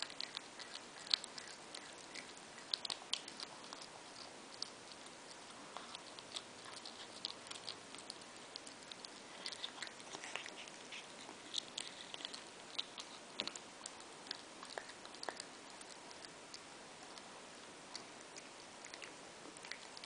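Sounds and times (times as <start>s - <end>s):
cat chewing with crunches: 0.0s - 20.0s.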